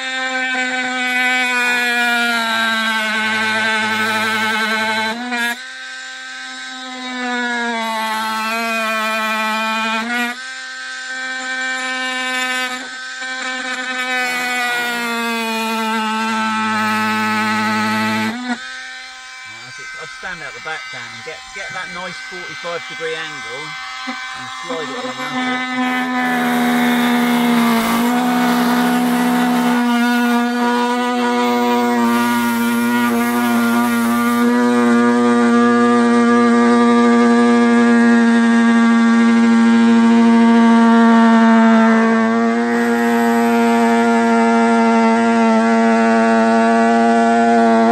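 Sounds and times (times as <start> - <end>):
oscillating multi-tool cutting carpet: 0.0 - 47.9.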